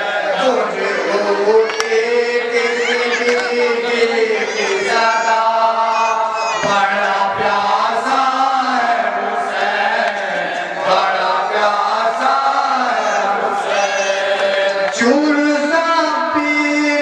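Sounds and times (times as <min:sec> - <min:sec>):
man chanting a lament: 0:00.1 - 0:09.5, 0:10.8 - 0:17.0.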